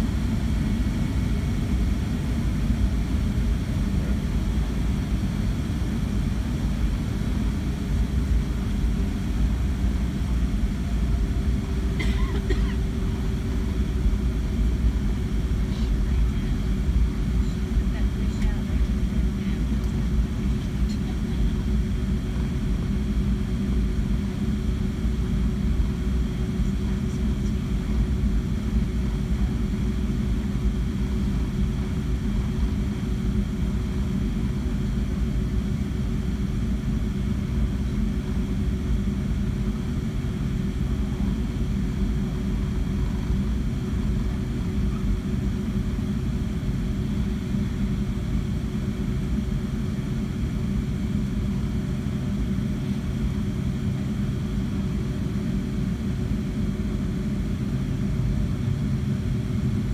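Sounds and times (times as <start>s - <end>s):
airplane engine rumble: 0.0s - 59.9s.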